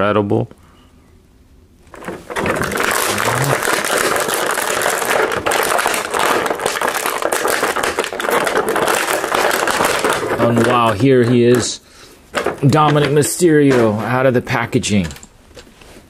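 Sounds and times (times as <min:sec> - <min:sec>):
plastic packaging crackling: 0:01.8 - 0:15.8.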